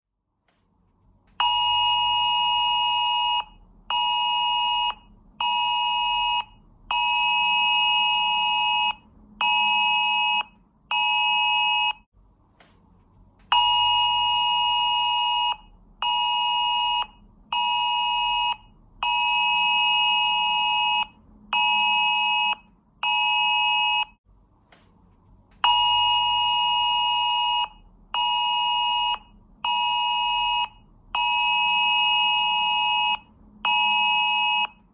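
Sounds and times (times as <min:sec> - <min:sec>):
harsh beeping alarm tone: 0:01.4 - 0:12.0, 0:13.5 - 0:24.2, 0:25.6 - 0:34.8.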